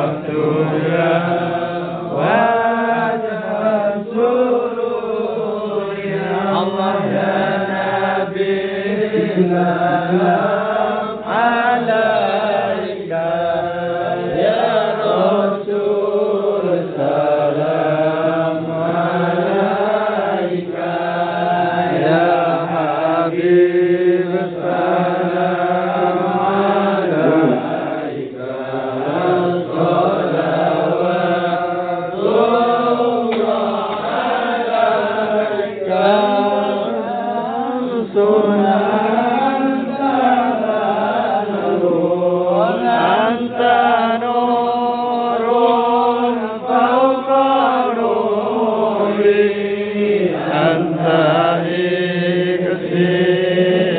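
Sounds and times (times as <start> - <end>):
men chanting in unison: 0.0 - 53.9.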